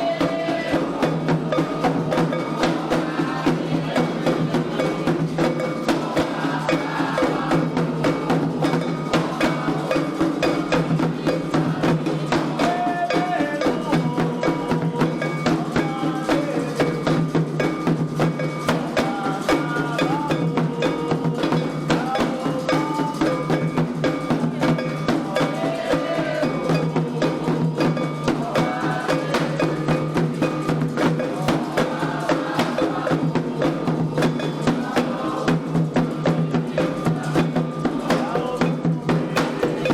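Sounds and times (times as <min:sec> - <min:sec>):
hand drums: 0:00.0 - 0:39.9
voices singing a chant: 0:00.0 - 0:39.9.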